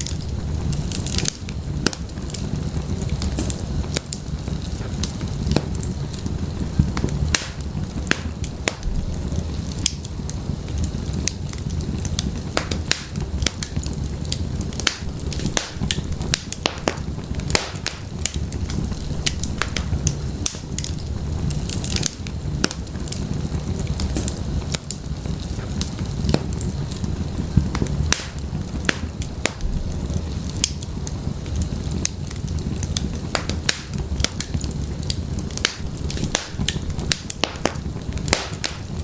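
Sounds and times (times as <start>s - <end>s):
firewood crackling and popping: 0.0s - 39.0s
low rumble of flames: 0.0s - 39.0s.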